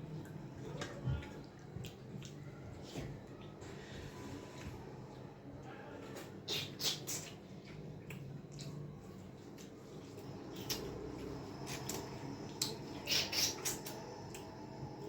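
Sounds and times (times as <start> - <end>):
chewing with wet mouth smacks: 0.0 - 4.0, 6.1 - 15.0.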